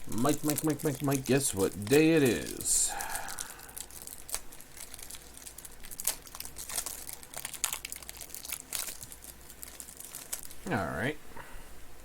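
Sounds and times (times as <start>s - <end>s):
wrapper packaging crinkling and tearing: 0.0s - 10.7s.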